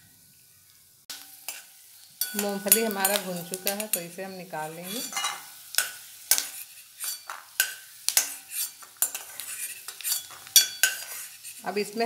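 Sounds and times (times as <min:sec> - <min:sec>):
metal spoon scraping and clinking pan: 0:01.1 - 0:11.8.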